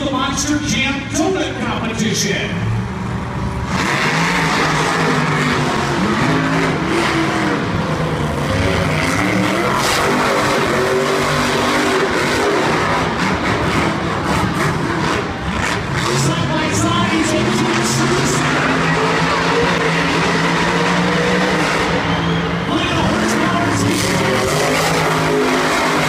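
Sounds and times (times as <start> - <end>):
monster truck engines revving: 0.0 - 26.0.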